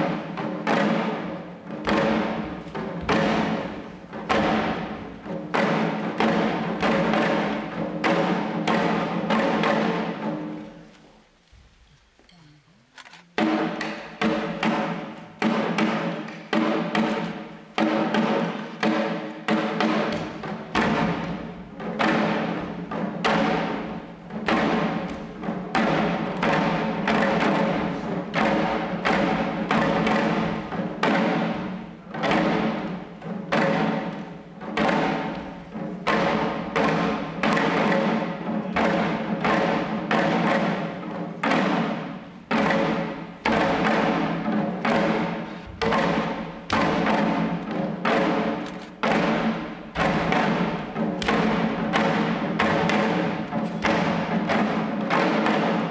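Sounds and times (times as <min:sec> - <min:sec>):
taiko drums beating: 0:00.0 - 0:11.3, 0:12.0 - 0:55.9.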